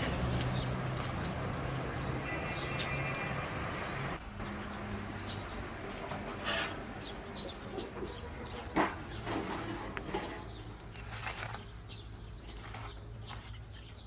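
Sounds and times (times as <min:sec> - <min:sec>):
birds calling faintly: 0:00.0 - 0:14.0
outdoor background noise: 0:00.0 - 0:14.0.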